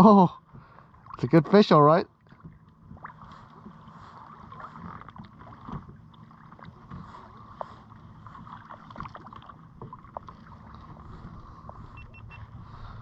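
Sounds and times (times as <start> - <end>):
waves lapping against hull: 0.0 - 13.0.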